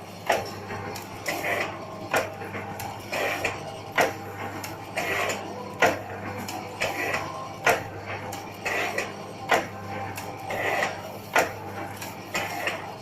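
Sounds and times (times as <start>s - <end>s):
machine hum: 0.0s - 13.0s
packing machine clacking: 0.0s - 13.0s.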